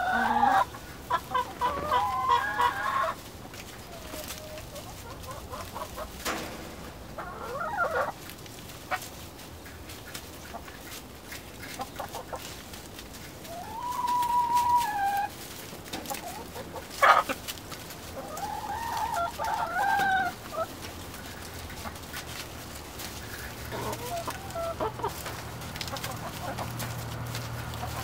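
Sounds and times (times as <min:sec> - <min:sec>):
hens calling: 0:00.0 - 0:28.0.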